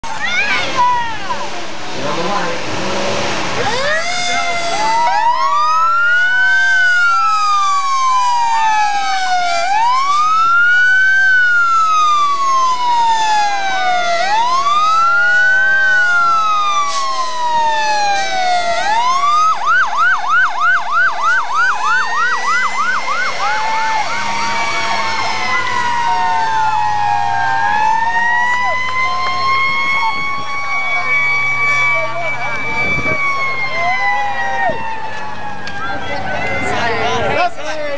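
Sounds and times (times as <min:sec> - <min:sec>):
fire engine sirens wailing: 0:00.0 - 0:37.9
fast siren yelp: 0:03.6 - 0:37.4.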